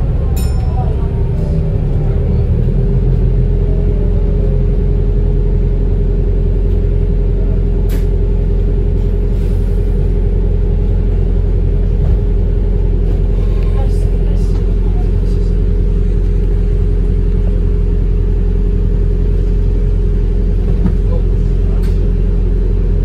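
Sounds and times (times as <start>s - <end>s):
bus low rumble: 0.0s - 23.0s.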